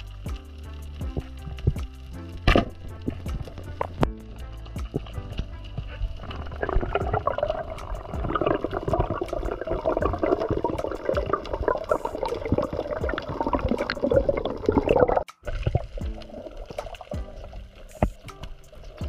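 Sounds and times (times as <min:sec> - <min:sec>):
faint music: 0:00.0 - 0:19.0
underwater bubbling water: 0:01.0 - 0:19.0.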